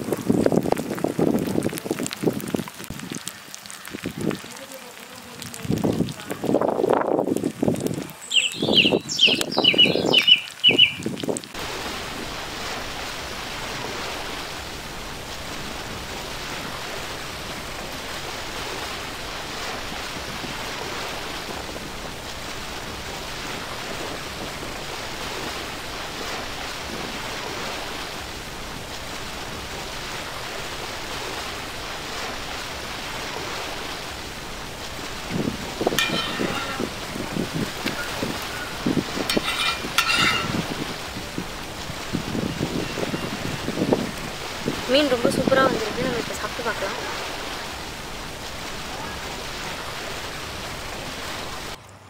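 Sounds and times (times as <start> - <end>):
hot oil sizzling: 0.0 - 42.6.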